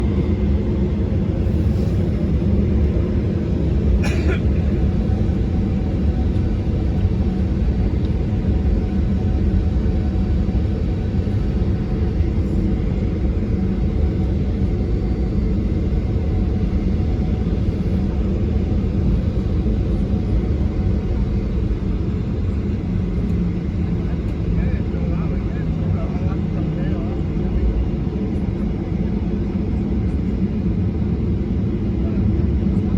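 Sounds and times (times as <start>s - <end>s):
jet engine rumble in cabin: 0.0s - 32.9s.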